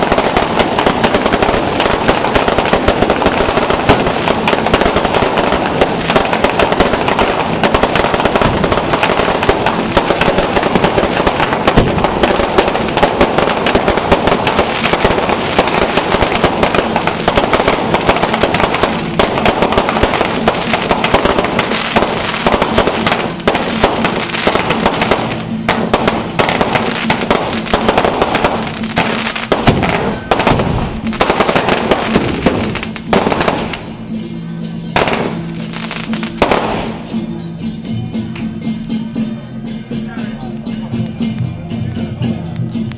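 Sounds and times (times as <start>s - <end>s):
fireworks crackling bangs: 0.0s - 34.2s, 34.9s - 37.3s.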